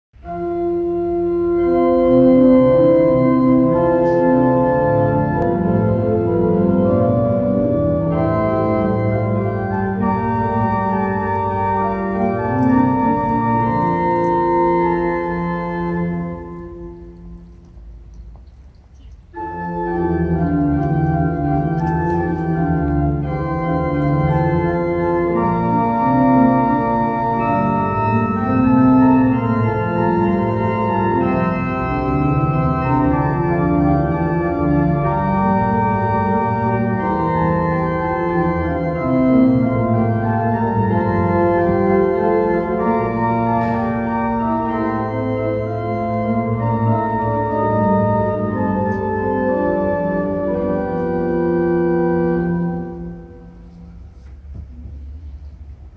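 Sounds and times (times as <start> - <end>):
organ music: 0.2 - 54.2.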